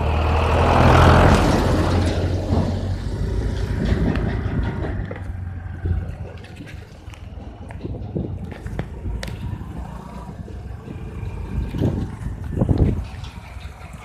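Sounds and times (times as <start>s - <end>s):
motorcycle engines running: 0.0s - 14.0s
tractor diesel engine passing: 0.0s - 14.0s.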